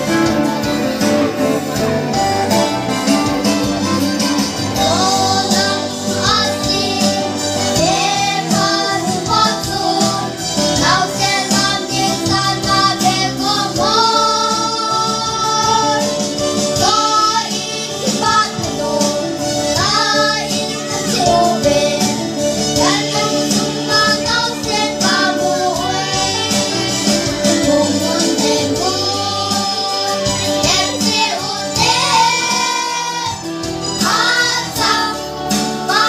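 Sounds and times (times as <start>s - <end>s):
instrumental accompaniment: 0.0s - 36.0s
girls singing into microphones: 4.7s - 36.0s.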